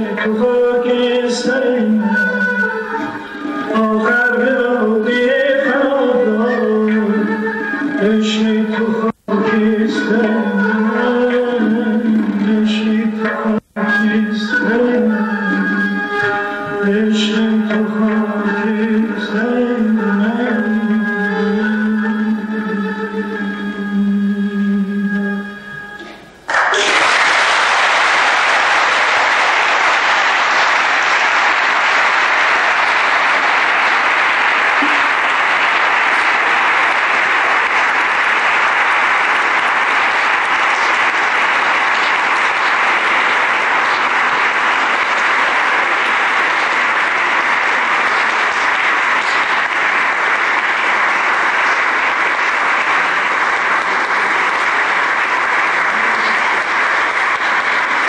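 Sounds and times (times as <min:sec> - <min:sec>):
audience applauding: 0:00.0 - 0:19.8, 0:26.0 - 0:58.0.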